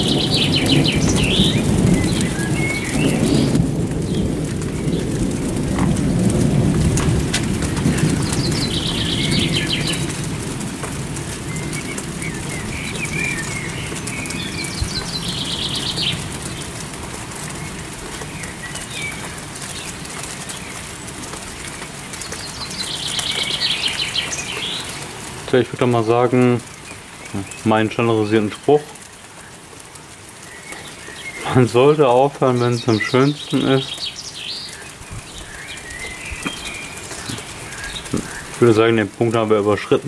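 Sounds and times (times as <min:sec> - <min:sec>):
songbird singing: 0:00.0 - 0:06.7, 0:07.6 - 0:10.4, 0:11.1 - 0:16.8, 0:17.4 - 0:40.0
steady rain: 0:00.0 - 0:40.0.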